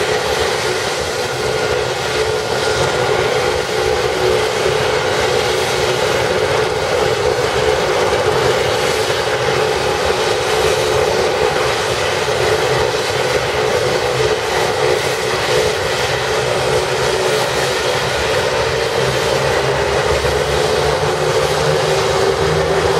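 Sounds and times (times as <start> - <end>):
helicopter engines and rotors whining: 0.0 - 22.9.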